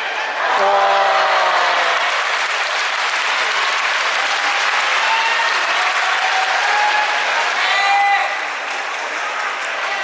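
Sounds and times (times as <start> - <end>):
crowd applauding: 0.4 - 10.0.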